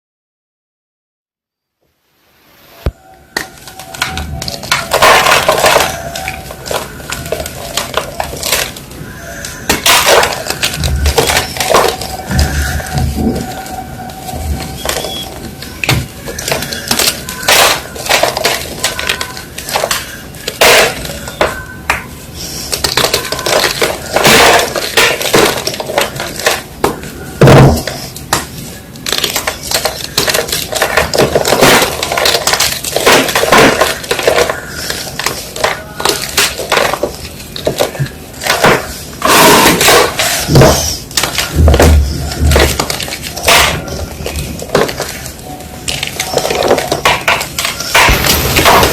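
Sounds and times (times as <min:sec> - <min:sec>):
chalk blocks crunching and cracking: 0:03.4 - 0:48.9.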